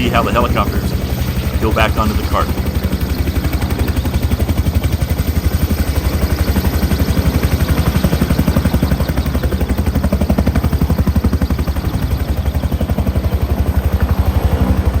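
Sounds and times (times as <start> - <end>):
helicopter rotor thumping: 0.0 - 15.0.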